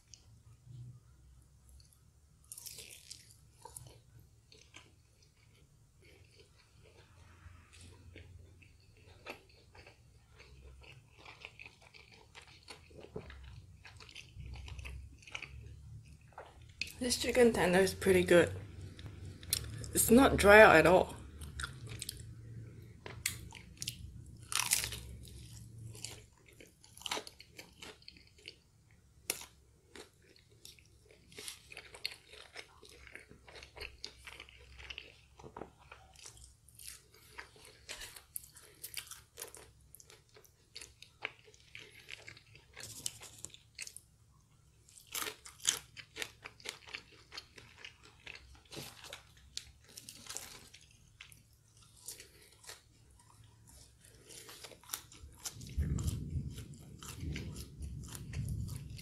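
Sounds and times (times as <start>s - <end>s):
crunching fried chicken: 1.7s - 17.4s, 21.2s - 59.0s
chewing mouth sounds: 2.5s - 17.0s, 21.2s - 28.6s, 29.3s - 59.0s.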